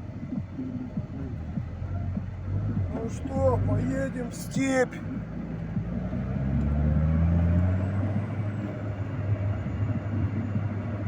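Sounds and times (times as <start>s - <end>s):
motor vehicle engine drone: 0.0s - 11.0s.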